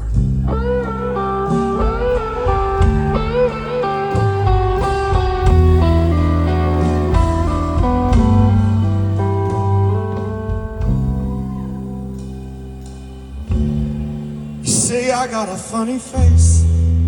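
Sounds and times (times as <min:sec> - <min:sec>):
lead guitar solo: 0:00.0 - 0:15.4
bass guitar: 0:00.0 - 0:17.0
live rock band: 0:00.0 - 0:17.0.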